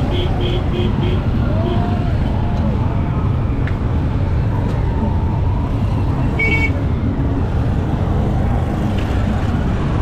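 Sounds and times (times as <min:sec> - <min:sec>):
vehicle engines running: 0:00.0 - 0:10.0.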